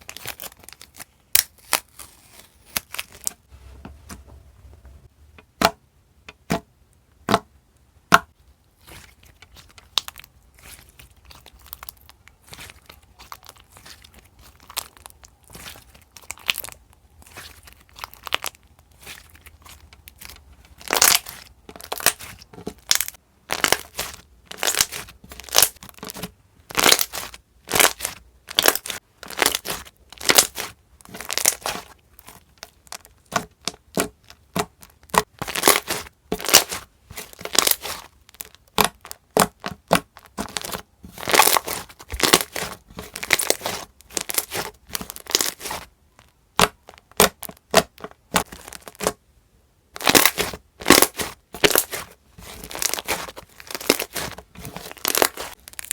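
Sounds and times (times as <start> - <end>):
slime crackling and popping: 0.0 - 3.5, 8.8 - 49.2, 50.0 - 55.9.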